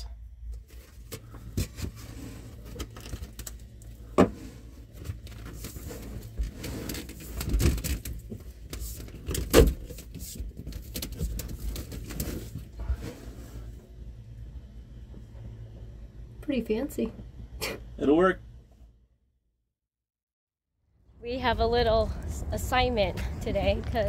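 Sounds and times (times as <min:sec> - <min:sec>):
steady low hum: 0:00.0 - 0:19.3.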